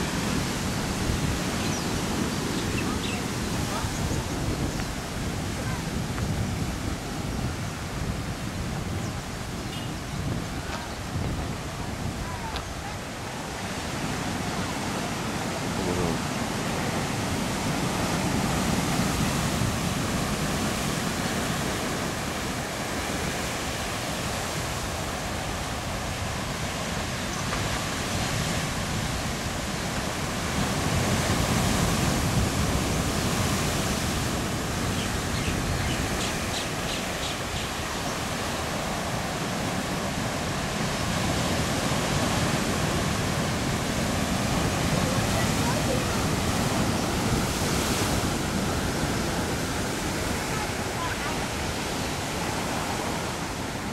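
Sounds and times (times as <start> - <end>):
ocean surf breaking over rocks: 0.0 - 53.9.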